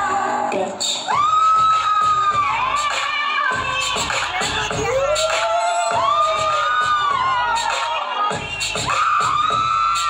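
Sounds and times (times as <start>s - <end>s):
audience cheering and shouting: 0.0s - 10.0s
music over hall sound system: 0.0s - 10.0s.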